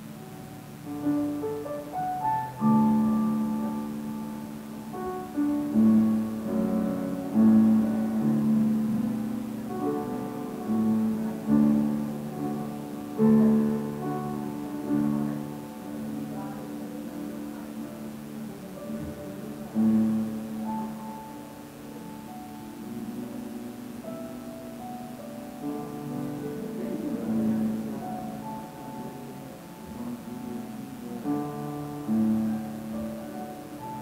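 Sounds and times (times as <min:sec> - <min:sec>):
slow instrumental worship music: 0:00.0 - 0:34.0.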